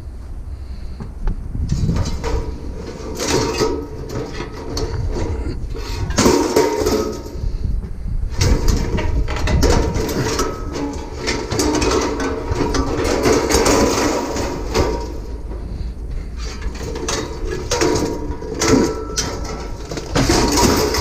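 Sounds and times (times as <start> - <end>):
steady low hum: 0.0 - 21.0
scrap metal clanking: 1.0 - 21.0.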